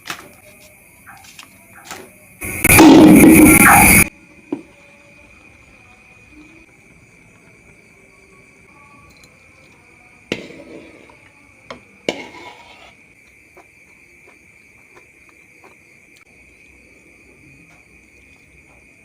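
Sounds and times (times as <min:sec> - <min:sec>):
high insect-like trill: 0:00.3 - 0:19.0.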